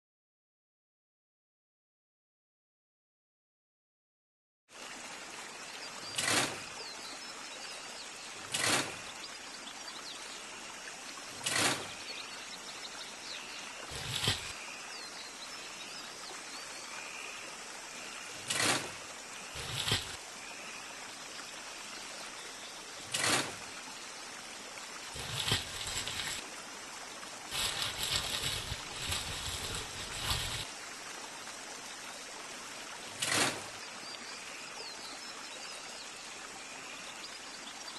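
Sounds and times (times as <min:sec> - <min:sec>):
running stream: 0:04.7 - 0:37.9.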